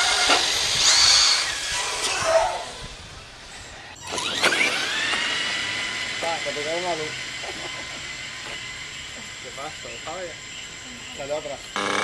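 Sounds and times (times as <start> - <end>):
toy car motor whining: 0.0 - 12.0.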